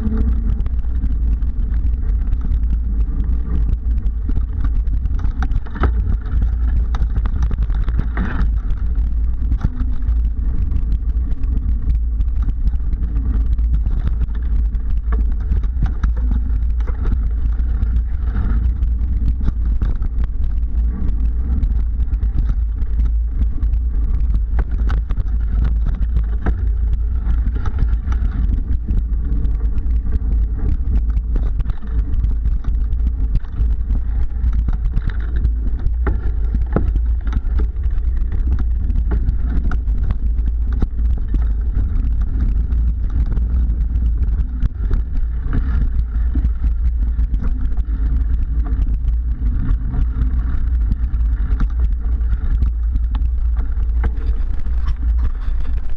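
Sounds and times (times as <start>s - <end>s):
bike rolling over dirt trail: 0.0s - 55.9s
small rattles and knocks: 0.0s - 55.9s
wind on microphone: 0.0s - 55.9s.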